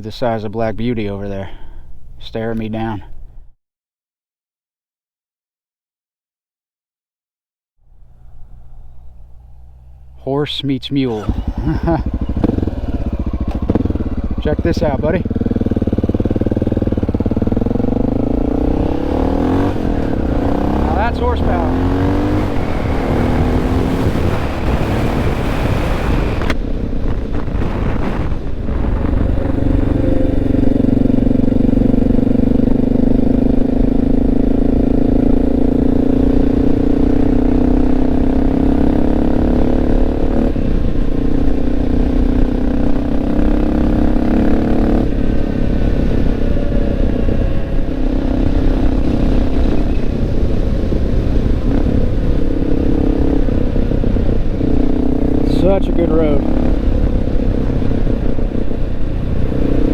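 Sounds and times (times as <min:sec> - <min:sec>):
motorcycle engine running: 0:07.9 - 0:10.3, 0:11.0 - 0:59.9.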